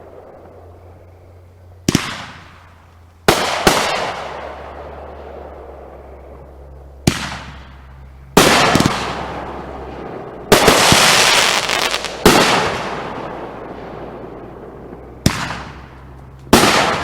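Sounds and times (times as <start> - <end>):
fireworks banging and crackling: 1.8 - 17.0.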